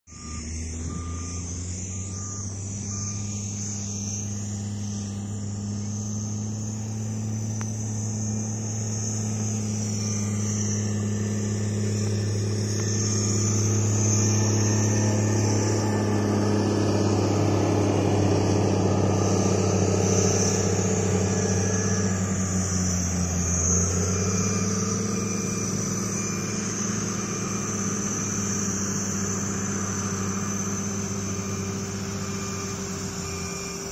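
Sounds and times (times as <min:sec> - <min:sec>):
vehicle engines running: 0:00.0 - 0:33.9
high-pitched whine: 0:00.1 - 0:33.9.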